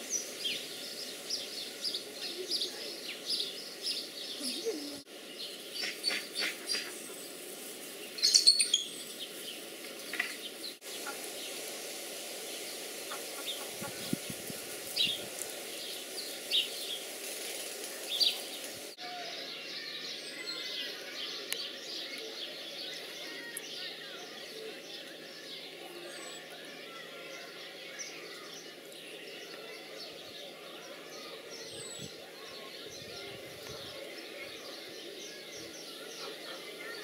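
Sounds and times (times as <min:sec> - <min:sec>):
background noise: 0:00.0 - 0:37.0.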